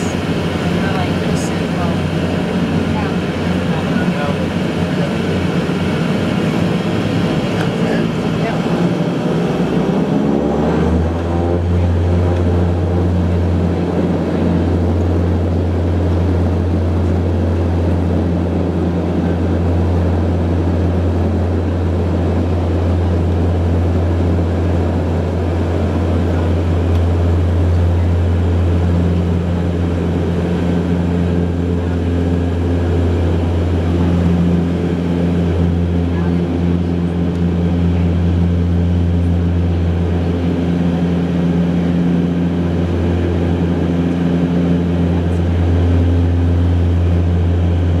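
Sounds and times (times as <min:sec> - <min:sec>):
turboprop engines drone from cabin: 0:00.0 - 0:48.0.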